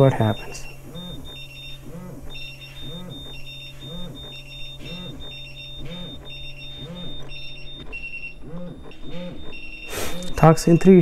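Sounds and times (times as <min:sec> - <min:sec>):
high-pitched alarm beeps: 0:00.0 - 0:11.0
low buzzing pulse: 0:00.0 - 0:11.0.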